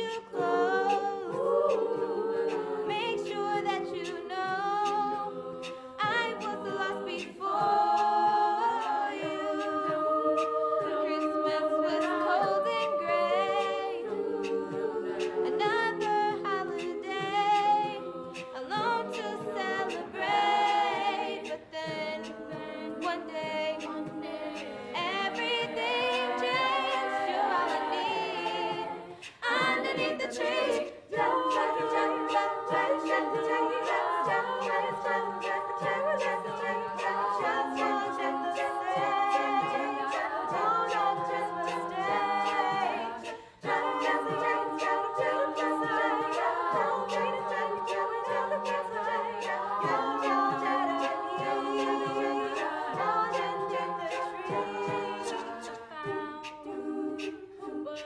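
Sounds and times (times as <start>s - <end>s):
a cappella group singing in harmony: 0.0s - 58.0s.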